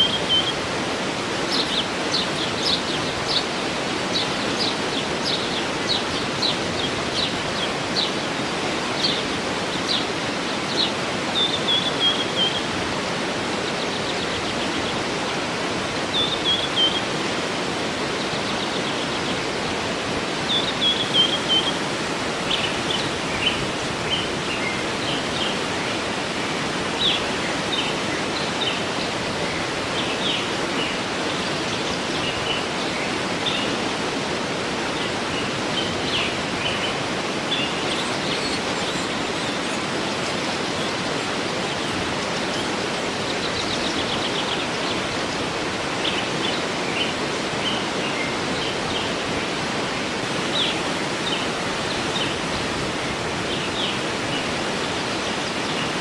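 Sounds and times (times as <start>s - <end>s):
songbirds chirping: 0.0s - 56.0s
waterfall rushing: 0.0s - 56.0s.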